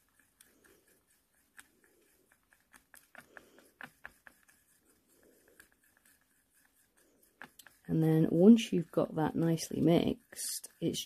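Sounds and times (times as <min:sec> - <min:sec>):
toothpick clicking and scraping: 0:00.0 - 0:11.0.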